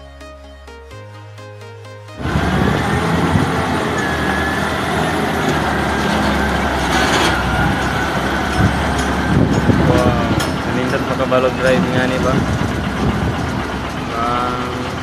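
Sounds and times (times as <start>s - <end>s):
heavy diesel engine running: 2.2s - 15.0s.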